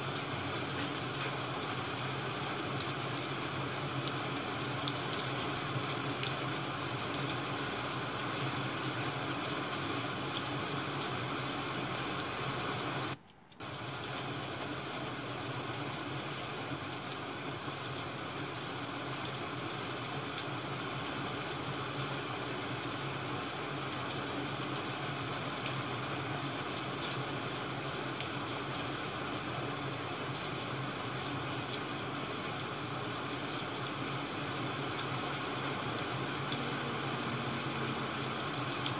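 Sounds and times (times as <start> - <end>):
rain hissing: 0.0 - 38.9.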